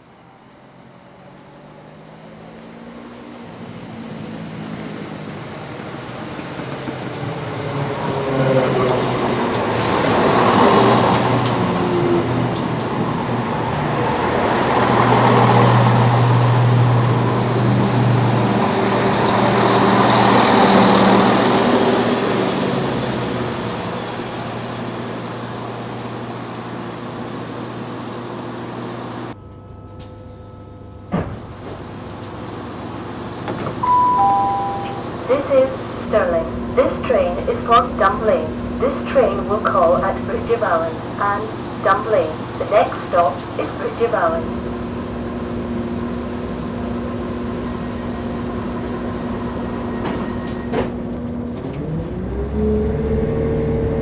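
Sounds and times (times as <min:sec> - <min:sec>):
passenger train running noise: 0:00.0 - 0:54.0
train hum: 0:00.0 - 0:54.0.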